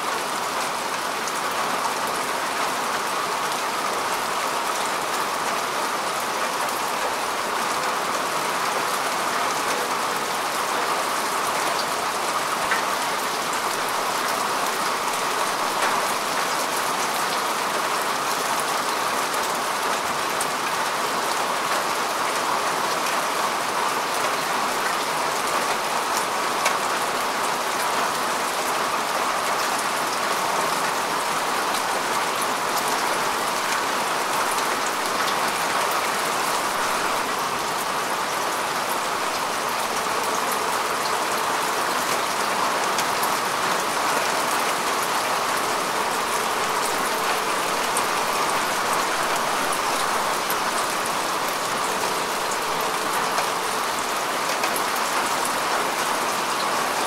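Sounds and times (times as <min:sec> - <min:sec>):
rain on grass: 0:00.0 - 0:57.0.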